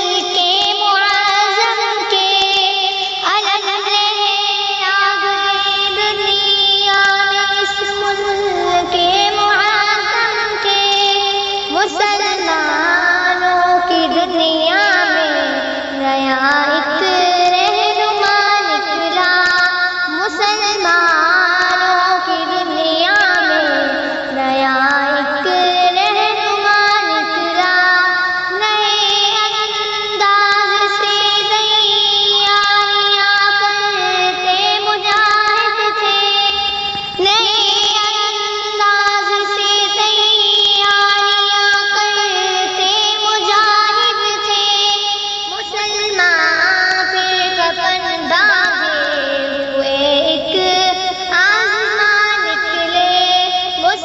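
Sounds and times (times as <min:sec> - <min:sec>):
high voice singing devotional song: 0:00.0 - 0:54.0.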